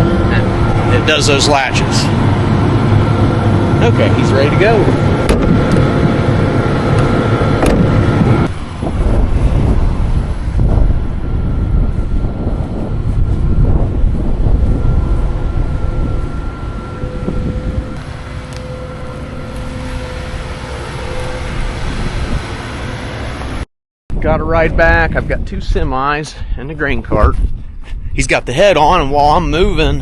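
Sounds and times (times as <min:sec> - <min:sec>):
steady machine hum: 0:00.0 - 0:26.2
diesel engine rumbling: 0:00.0 - 0:30.0.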